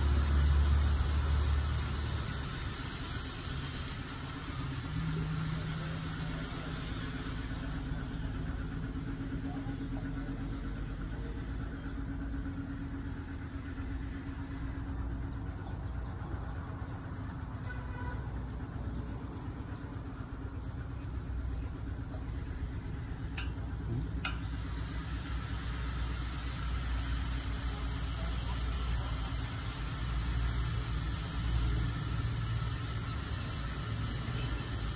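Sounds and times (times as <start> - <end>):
machine humming: 0.0 - 34.9.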